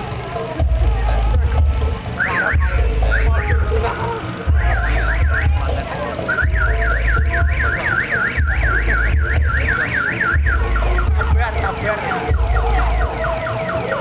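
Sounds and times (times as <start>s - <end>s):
low thumping bass: 0.0s - 14.0s
electronic siren warbling and whooping: 2.0s - 14.0s.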